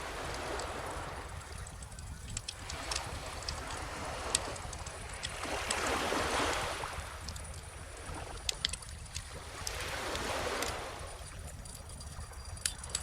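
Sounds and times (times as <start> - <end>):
ocean waves washing onto beach: 0.0 - 13.0.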